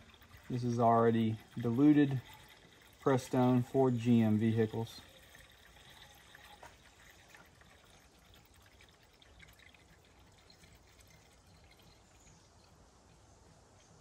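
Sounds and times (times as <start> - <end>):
liquid pouring into plastic tank: 0.0 - 12.4.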